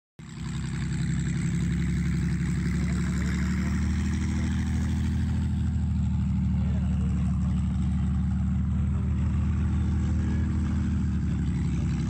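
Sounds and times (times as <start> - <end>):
radial aero engine idling: 0.2 - 12.0.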